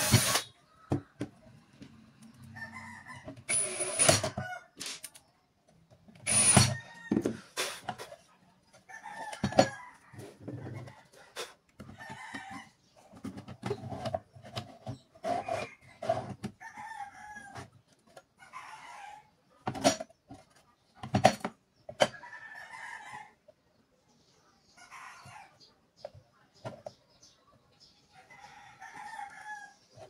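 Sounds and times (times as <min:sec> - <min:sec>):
chickens clucking and crowing: 0:00.0 - 0:05.3, 0:06.6 - 0:14.4, 0:15.0 - 0:20.9, 0:21.6 - 0:30.0.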